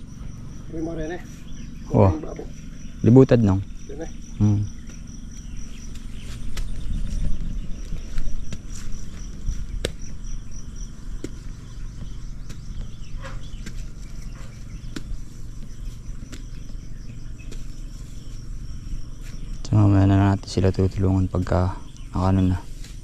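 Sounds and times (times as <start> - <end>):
insect chirping: 0.0 - 23.0
low steady rumble: 0.0 - 23.0.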